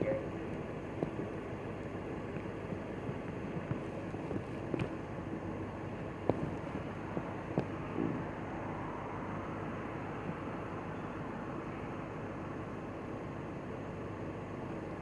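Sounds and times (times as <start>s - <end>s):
road traffic: 0.0s - 15.0s
wind: 0.0s - 15.0s.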